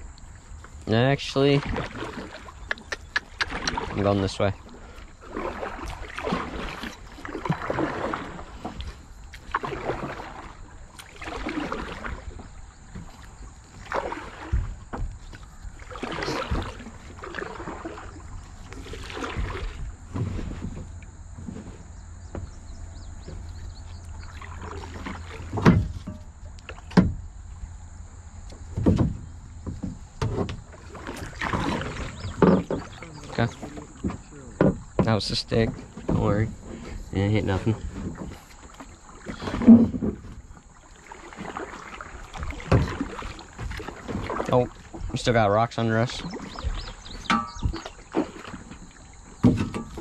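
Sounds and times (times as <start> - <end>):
kayak paddle splashing: 0.0 - 50.0.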